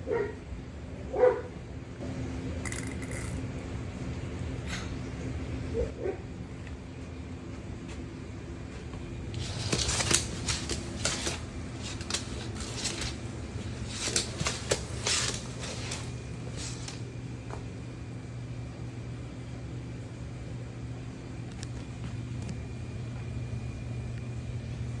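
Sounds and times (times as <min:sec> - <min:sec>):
fan humming: 0:00.0 - 0:25.0.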